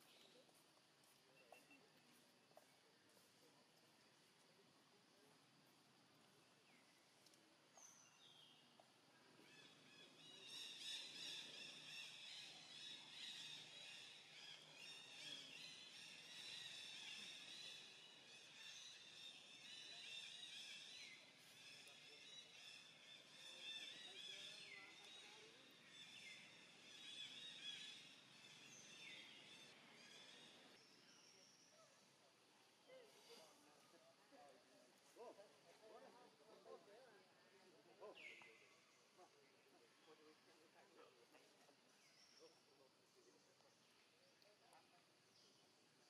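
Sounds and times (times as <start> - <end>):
faint outdoor ambience: 0.0 - 46.0.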